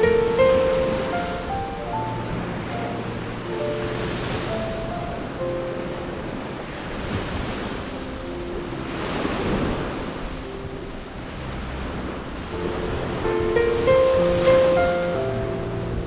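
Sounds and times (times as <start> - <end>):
sea waves washing onto shore: 0.0 - 16.0
wind buffeting microphone: 0.0 - 16.0.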